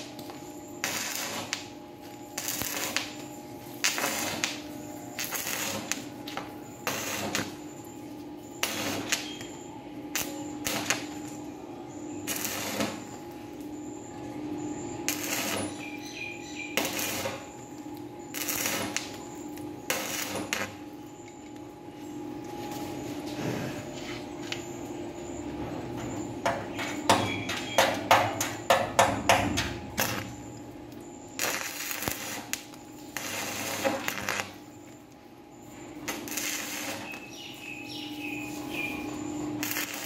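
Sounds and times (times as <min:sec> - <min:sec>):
welding arc crackling and sizzling: 0:00.0 - 0:21.8, 0:26.4 - 0:40.0
steady low hum: 0:00.0 - 0:40.0.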